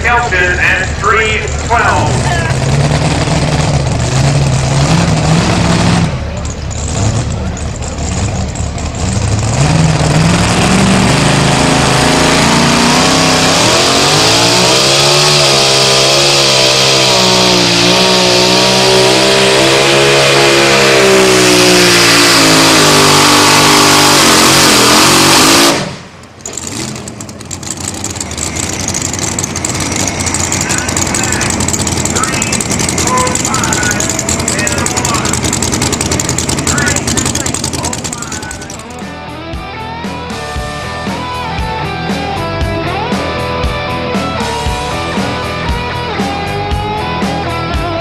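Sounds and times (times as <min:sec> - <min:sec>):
truck engine revving at full throttle: 0:00.0 - 0:48.0.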